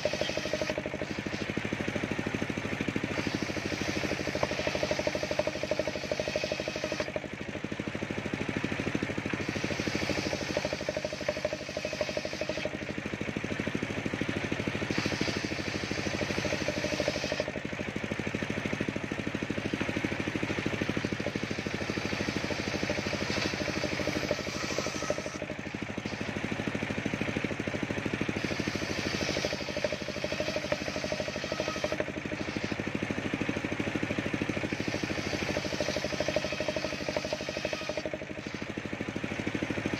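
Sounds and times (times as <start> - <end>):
circular saw blade cutting wood: 0.0 - 39.9
engine drone: 0.0 - 39.9.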